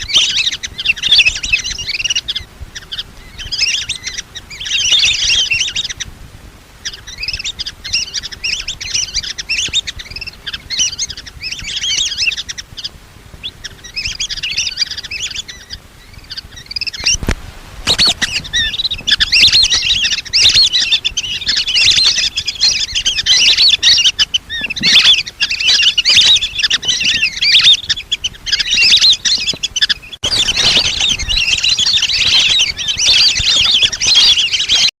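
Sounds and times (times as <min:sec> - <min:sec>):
ducks whistling and chirping: 0:00.0 - 0:06.1, 0:06.8 - 0:34.9.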